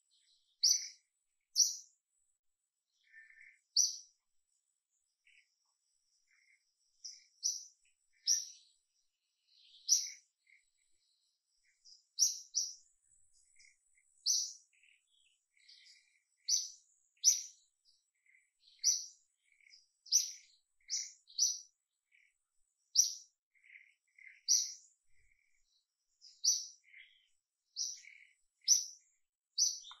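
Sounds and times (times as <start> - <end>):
small bird chirping: 0.0 - 30.0.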